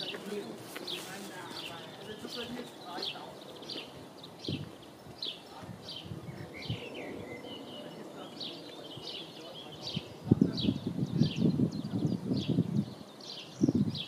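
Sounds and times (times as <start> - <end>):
small birds singing: 0.0 - 14.0.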